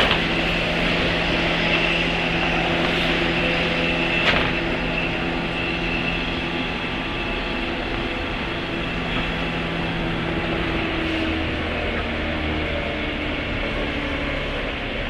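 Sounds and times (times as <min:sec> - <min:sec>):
traction motors humming: 0:00.0 - 0:15.0
train wheels rumbling on rail: 0:00.0 - 0:15.0.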